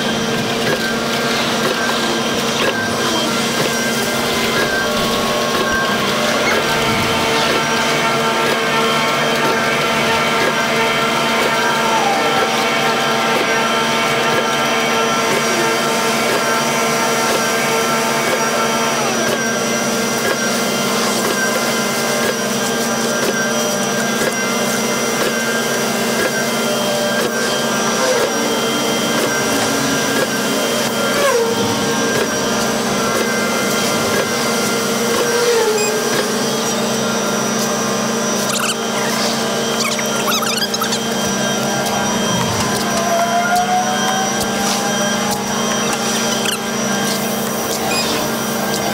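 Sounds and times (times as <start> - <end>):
concrete mixer truck drone and whine: 0.0 - 48.9.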